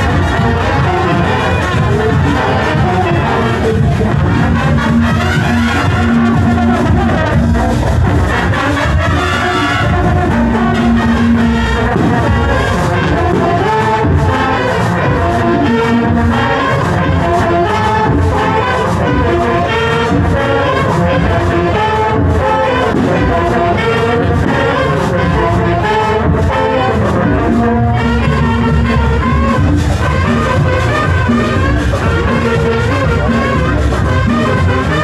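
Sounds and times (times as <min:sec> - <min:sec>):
brass melody: 0:00.0 - 0:35.0
steady drum beat: 0:00.0 - 0:35.0.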